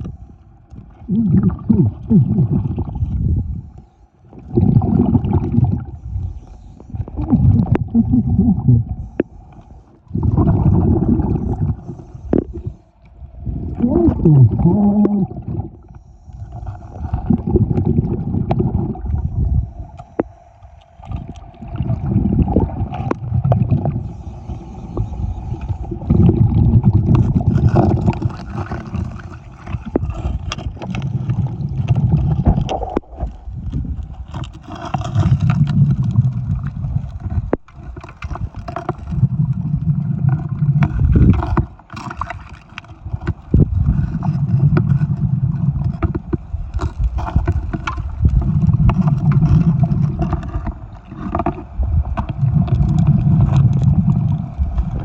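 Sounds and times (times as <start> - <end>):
underwater gurgling bubbles: 0.0 - 55.0.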